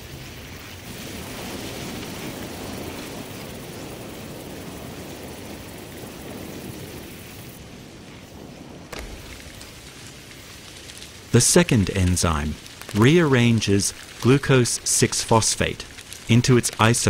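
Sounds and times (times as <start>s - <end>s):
rumble and rush of noise: 0.0s - 17.0s.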